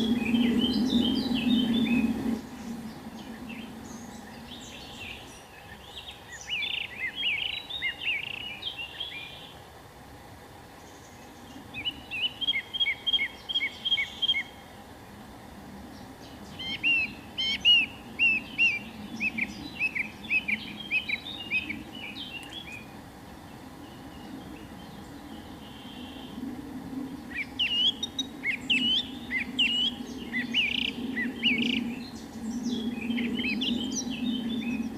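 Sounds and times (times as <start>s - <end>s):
songbird chirping: 0.0s - 9.7s, 10.7s - 34.9s
faint outdoor background noise: 0.0s - 34.9s.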